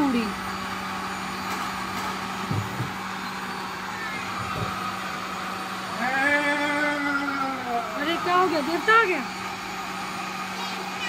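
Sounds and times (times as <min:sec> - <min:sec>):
held steady tone: 0:00.0 - 0:11.0
mixer grinder running: 0:00.0 - 0:11.0.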